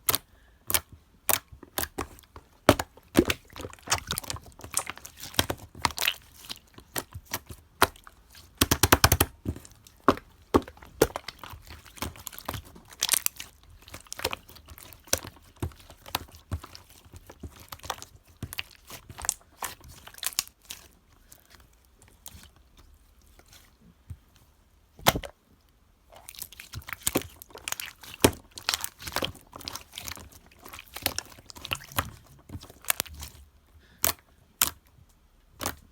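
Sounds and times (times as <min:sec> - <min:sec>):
slime squelching and popping: 0:00.0 - 0:23.8, 0:25.0 - 0:25.4, 0:26.1 - 0:35.9.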